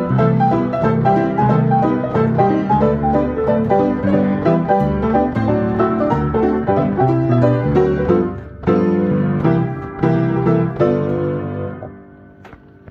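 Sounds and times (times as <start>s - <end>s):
player piano chords: 0.0s - 12.9s.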